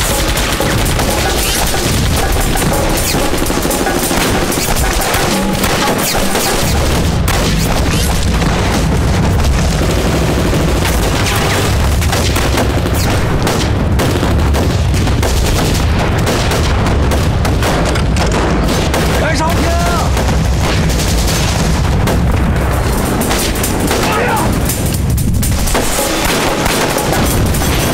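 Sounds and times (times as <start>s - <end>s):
deep continuous rumble: 0.0s - 27.9s
explosions: 0.0s - 27.9s
rifle and machine-gun fire: 0.0s - 27.9s.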